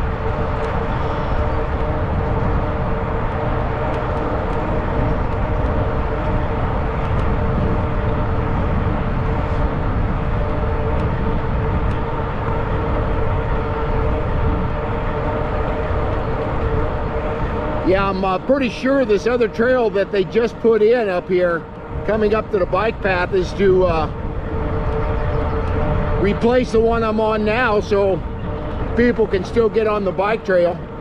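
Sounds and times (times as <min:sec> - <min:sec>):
even hum: 0:00.0 - 0:31.0
wind rushing over microphone: 0:00.0 - 0:31.0.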